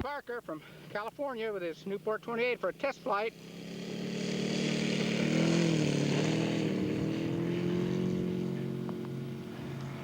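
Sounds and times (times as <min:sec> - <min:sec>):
model aircraft engine running: 0:00.8 - 0:10.0.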